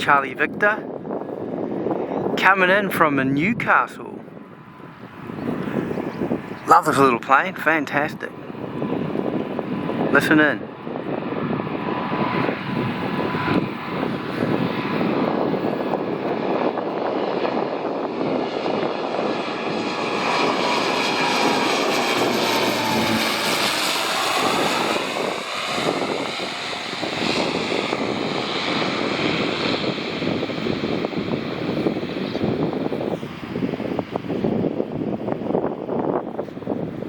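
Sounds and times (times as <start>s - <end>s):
turboprop plane flying past: 0.8s - 37.0s.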